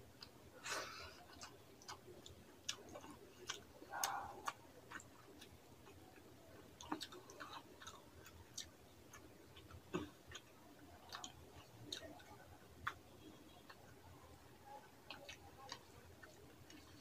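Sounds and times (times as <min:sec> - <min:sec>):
wet chewing clicks: 0:00.1 - 0:17.0.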